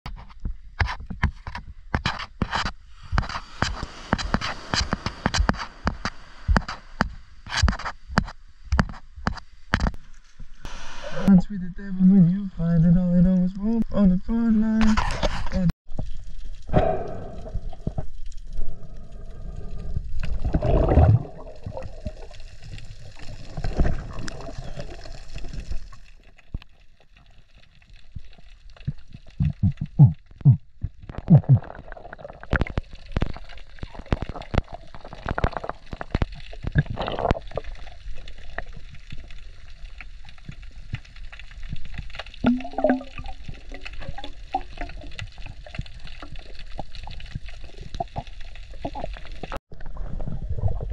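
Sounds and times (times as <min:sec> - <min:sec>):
water splashing: 0:02.9 - 0:08.1, 0:15.0 - 0:50.9.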